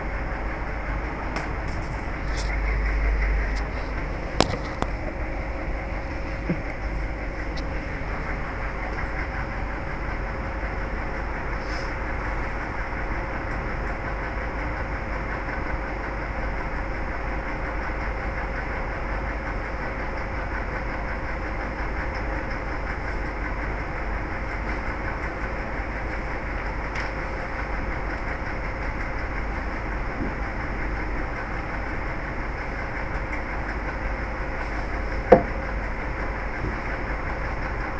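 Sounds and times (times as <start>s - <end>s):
low hum: 0.0s - 37.9s.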